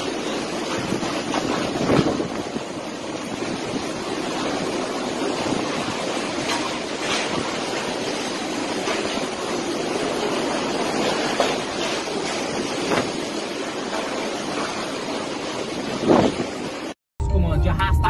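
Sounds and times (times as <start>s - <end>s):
strong wind rushing: 0.0s - 17.0s.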